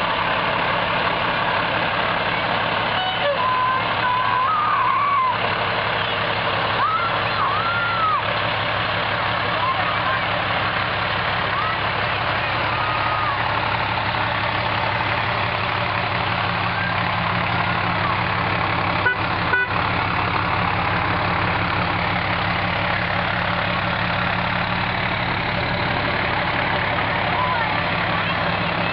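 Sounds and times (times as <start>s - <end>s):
diesel engine droning: 0.0s - 28.9s
road noise: 0.0s - 28.9s.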